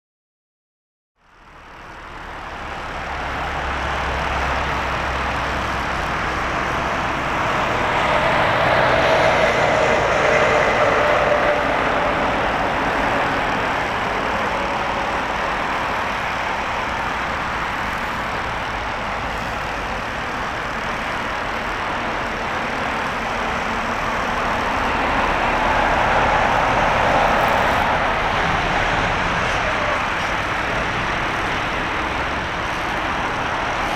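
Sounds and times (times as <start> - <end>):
jet engine roar: 3.6 - 20.6, 21.6 - 33.9.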